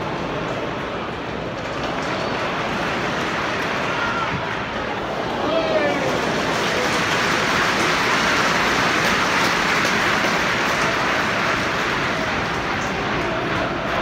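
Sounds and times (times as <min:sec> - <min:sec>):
stadium crowd roaring: 0:00.0 - 0:14.0.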